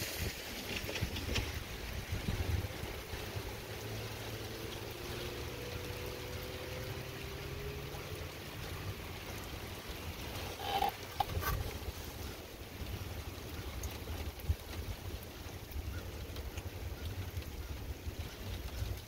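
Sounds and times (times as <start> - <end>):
pouring rain: 0.0 - 19.0.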